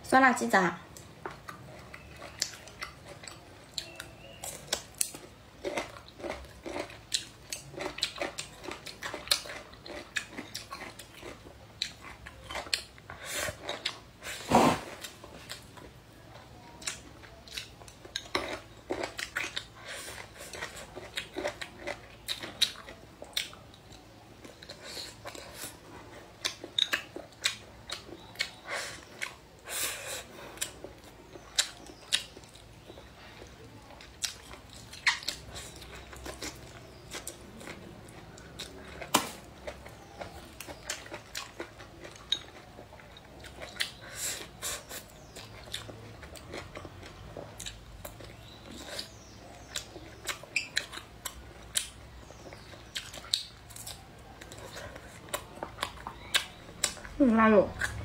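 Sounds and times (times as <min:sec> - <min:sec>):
person chewing food: 0:00.9 - 0:58.0.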